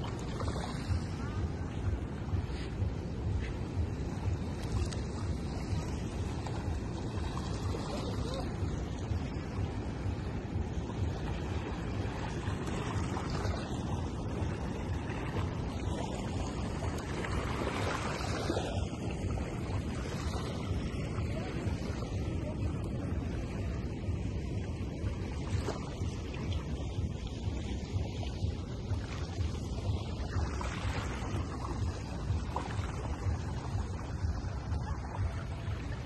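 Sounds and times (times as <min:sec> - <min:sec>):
small waves washing on sand: 0:00.0 - 0:36.0
wind rumbling on microphone: 0:00.0 - 0:36.0.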